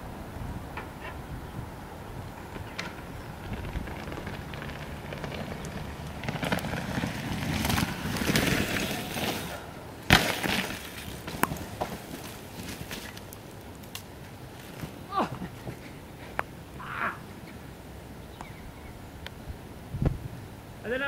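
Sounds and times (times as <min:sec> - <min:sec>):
bike tyres rumbling and rattling: 0:00.0 - 0:17.6.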